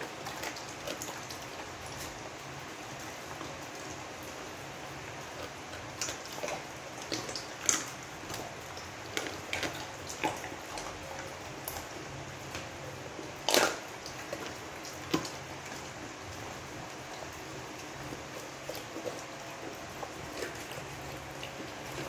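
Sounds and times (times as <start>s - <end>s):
dog chewing and crunching bone: 0.0s - 22.0s.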